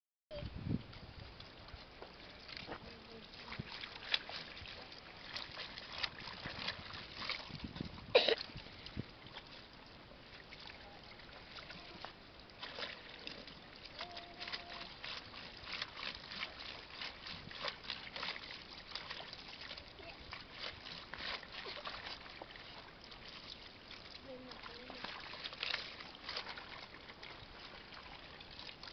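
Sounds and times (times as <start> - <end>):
clothes scrubbed in soapy water: 1.9 - 9.5, 10.4 - 28.9.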